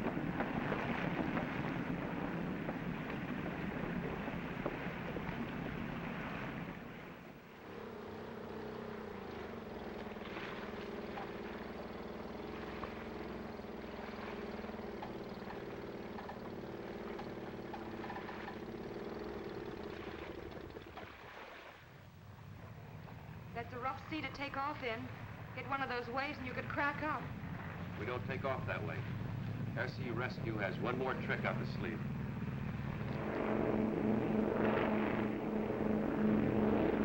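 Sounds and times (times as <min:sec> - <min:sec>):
aircraft engines droning: 0:00.0 - 0:37.0.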